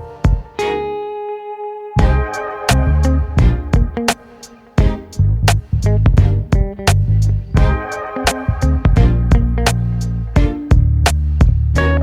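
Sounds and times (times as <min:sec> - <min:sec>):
music with guitar bass and beat: 0:00.0 - 0:12.0.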